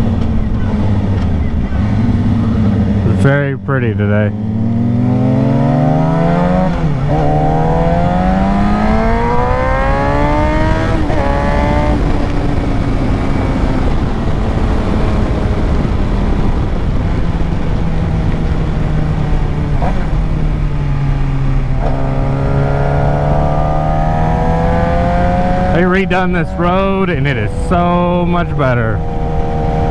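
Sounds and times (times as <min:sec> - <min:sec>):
motorcycle engine accelerating: 0:00.0 - 0:29.9
rushing wind: 0:04.4 - 0:29.9.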